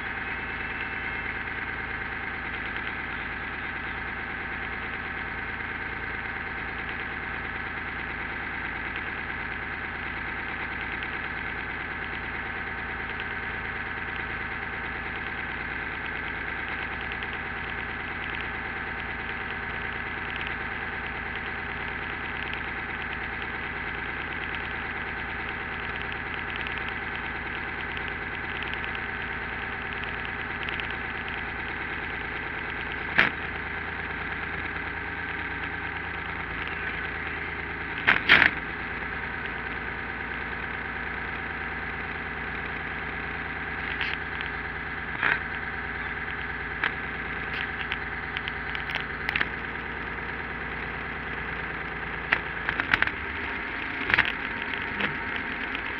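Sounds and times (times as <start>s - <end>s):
engine idling: 0.0s - 55.9s
sharp engine knocks and pops: 8.6s - 55.9s.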